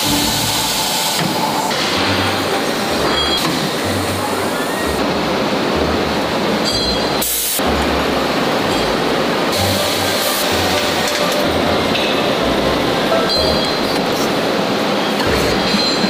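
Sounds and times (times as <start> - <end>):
loud factory machine noise: 0.0 - 16.0.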